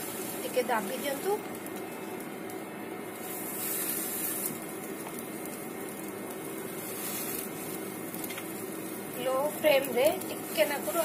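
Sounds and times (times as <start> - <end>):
buns sizzling on hot iron: 0.0 - 11.0.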